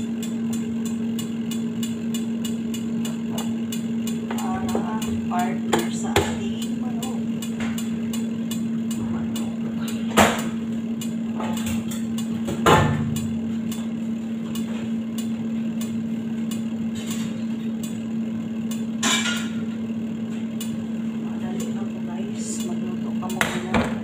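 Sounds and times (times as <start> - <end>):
kitchen hum: 0.0 - 24.0.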